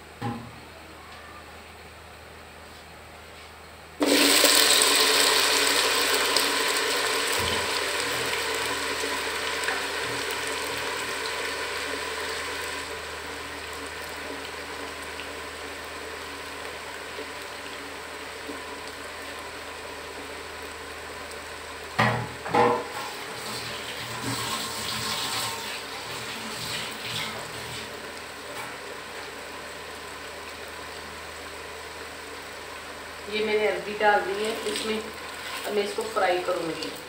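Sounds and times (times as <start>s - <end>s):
food sizzling in hot oil: 4.0s - 37.0s.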